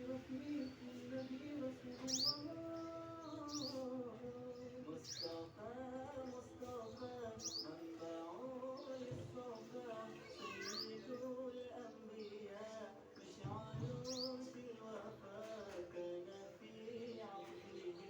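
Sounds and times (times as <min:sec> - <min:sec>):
music with singing: 0:00.0 - 0:18.0.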